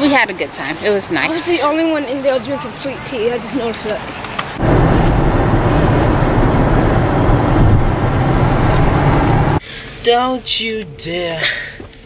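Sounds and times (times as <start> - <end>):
car driving road noise: 0.0 - 10.6.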